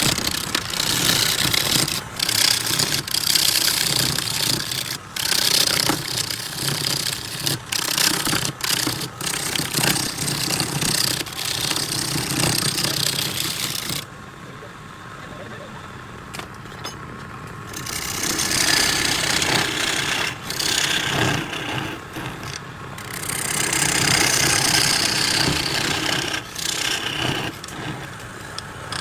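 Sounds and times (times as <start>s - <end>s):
lathe tool scraping wood: 0.0s - 14.1s, 17.6s - 29.0s.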